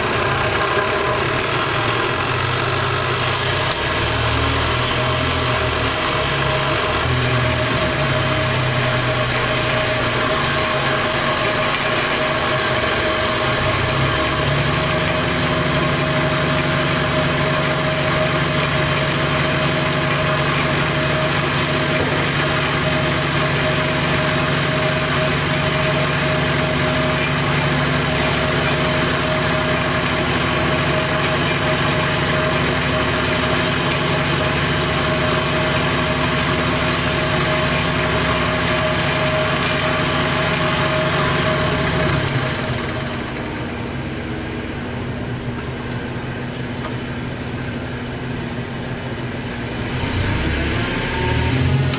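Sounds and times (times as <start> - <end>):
wood lathe motor humming: 0.0 - 46.4.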